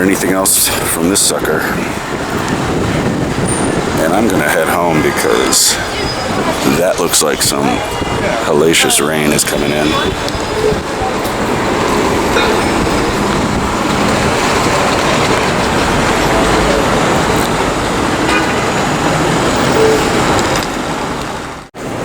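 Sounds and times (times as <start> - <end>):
subway train running: 0.0 - 22.0.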